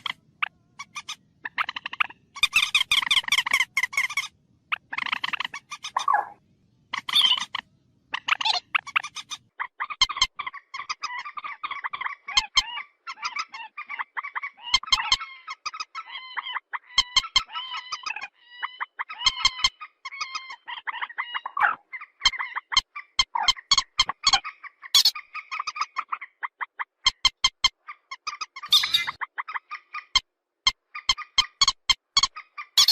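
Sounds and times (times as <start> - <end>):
swamphen cackling calls: 0.0 - 30.2.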